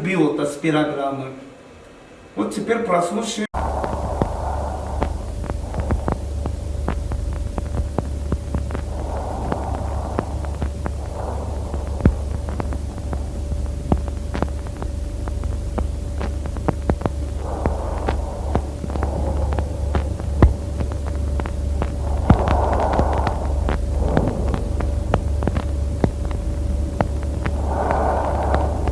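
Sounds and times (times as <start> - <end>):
breath sounds through stethoscope: 3.6 - 28.9
constant low hum: 3.6 - 28.9.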